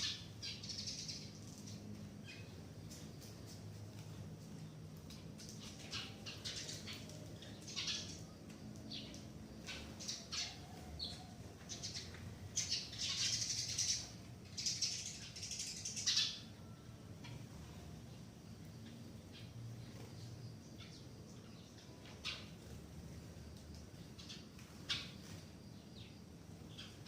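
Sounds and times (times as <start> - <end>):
birds calling: 0.0 - 27.0.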